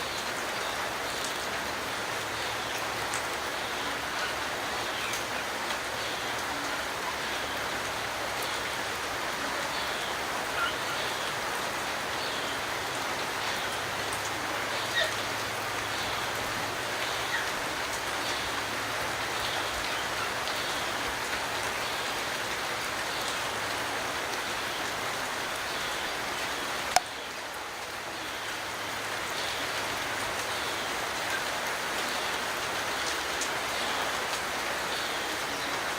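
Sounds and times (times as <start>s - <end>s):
steady rain pattering: 0.0s - 35.9s.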